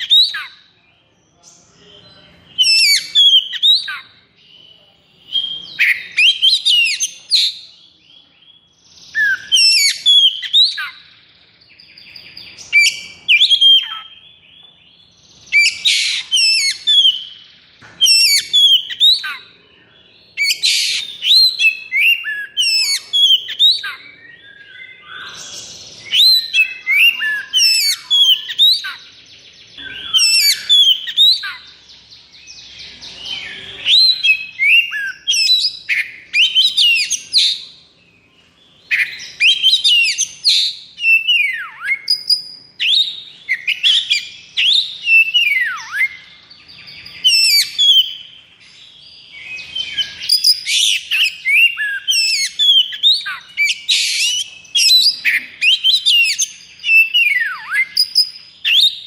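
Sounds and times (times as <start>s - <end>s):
bird singing whistles and trills: 0.0s - 59.0s.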